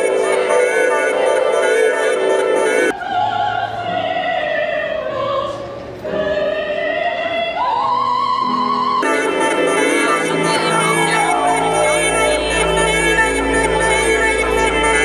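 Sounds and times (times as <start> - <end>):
background music: 0.0 - 15.0
soprano singing opera: 0.0 - 15.0.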